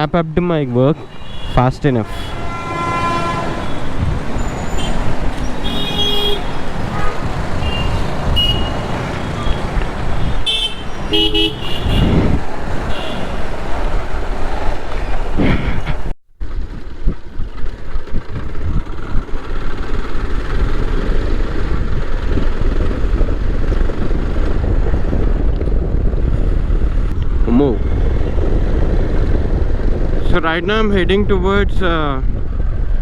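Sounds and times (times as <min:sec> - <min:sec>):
road noise: 0:00.0 - 0:33.0
motorcycle engine: 0:01.0 - 0:30.2
wind rush on microphone: 0:01.0 - 0:33.0.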